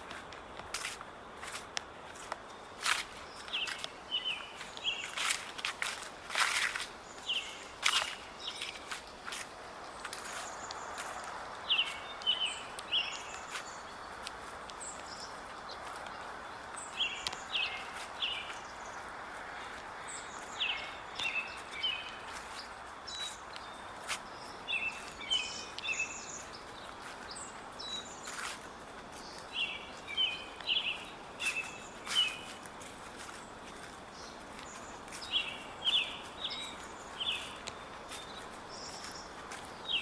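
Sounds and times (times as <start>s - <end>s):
steady outdoor hiss: 0.0s - 40.0s
songbirds chirping: 0.1s - 40.0s.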